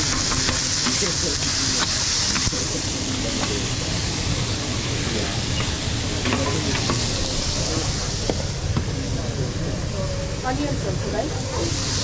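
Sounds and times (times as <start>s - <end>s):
vegetables sizzling on griddle: 0.0s - 9.5s, 10.4s - 12.0s.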